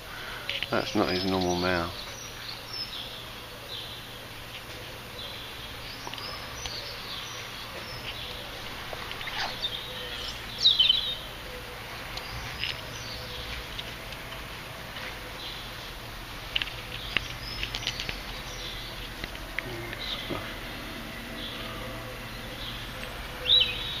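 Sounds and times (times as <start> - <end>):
faint low hum: 0.0 - 24.0
small birds chirping: 0.0 - 24.0.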